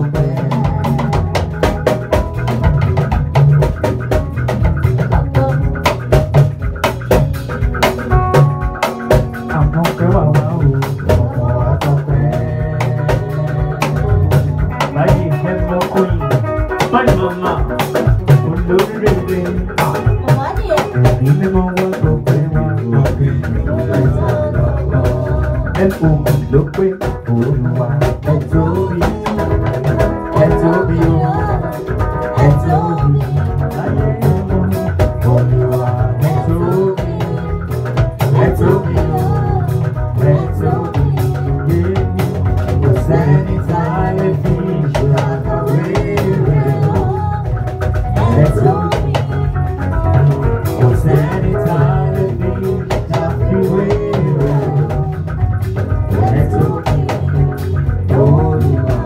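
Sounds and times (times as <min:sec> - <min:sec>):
woman singing into microphone: 0:00.0 - 0:02.4, 0:04.8 - 0:59.0
live band playing: 0:00.0 - 0:59.0.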